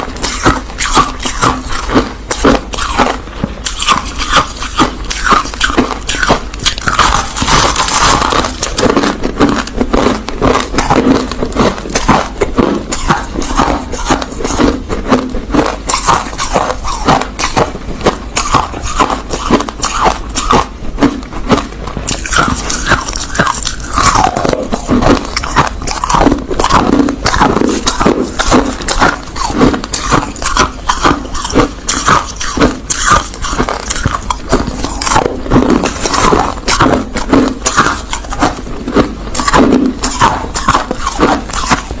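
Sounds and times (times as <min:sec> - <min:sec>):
crushed ice being chewed: 0:00.0 - 0:42.0.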